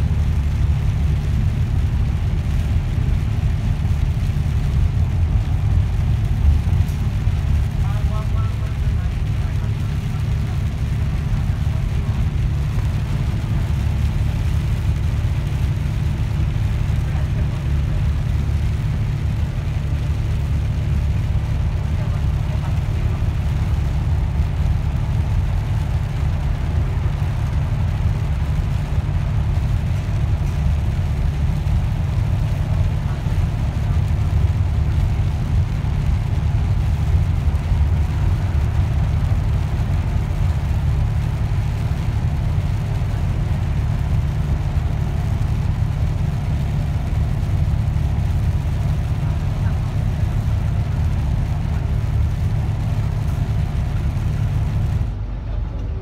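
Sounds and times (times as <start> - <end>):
bus engine drone: 0.0 - 56.0
tyre and road noise: 0.0 - 56.0.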